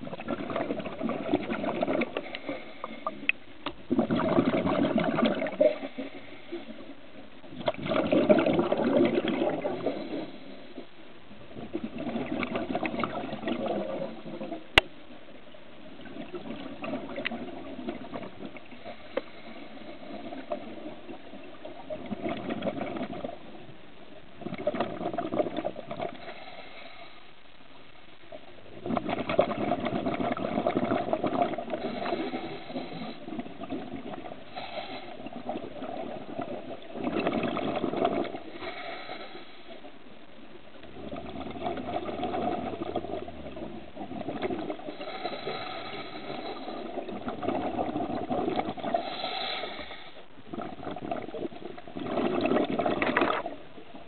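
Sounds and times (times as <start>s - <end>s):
underwater exhaled bubbles rushing: 0.0s - 14.8s, 15.9s - 23.7s, 24.3s - 27.2s, 28.4s - 39.9s, 40.9s - 54.0s.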